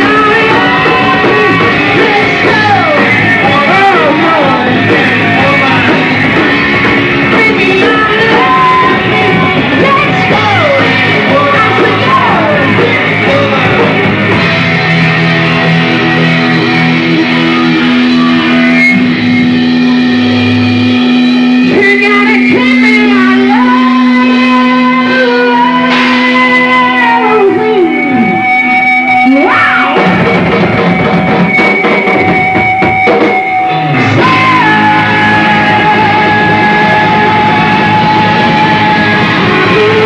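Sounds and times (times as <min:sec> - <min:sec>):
vocals: 0:00.0 - 0:31.2, 0:32.2 - 0:40.0
electric guitars: 0:00.0 - 0:40.0
heavy rock band playing live: 0:00.0 - 0:40.0.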